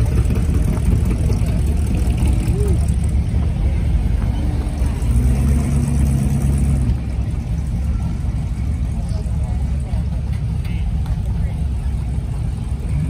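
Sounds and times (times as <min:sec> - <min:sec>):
cars driving slowly past: 0:00.0 - 0:13.0.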